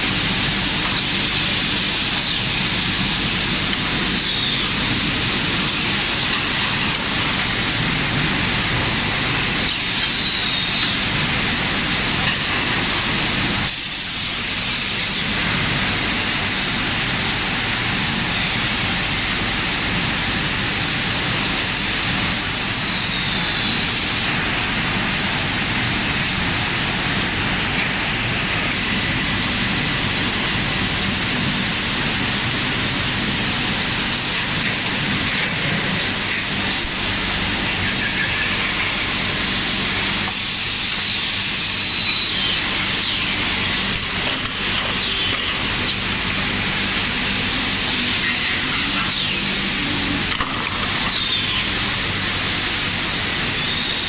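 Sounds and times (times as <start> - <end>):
factory machinery humming: 0.0 - 54.0.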